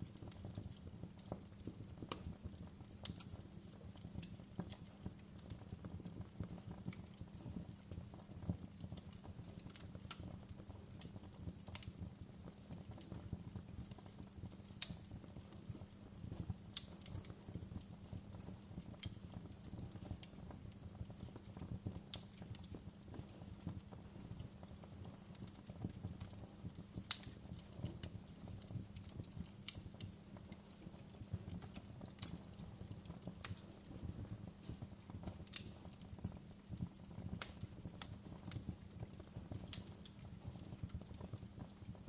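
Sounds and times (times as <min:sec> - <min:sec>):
low rumble of flames: 0:00.0 - 0:42.0
wood fire crackling: 0:00.0 - 0:42.0.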